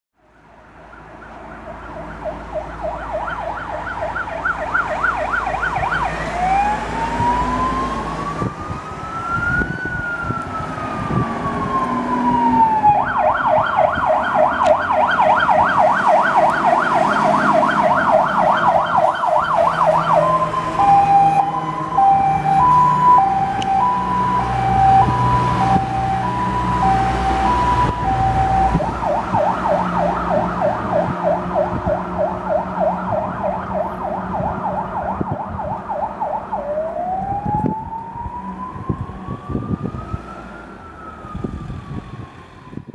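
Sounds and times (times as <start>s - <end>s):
fire engine siren: 0.2s - 42.9s
truck engine rumbling: 0.3s - 42.9s.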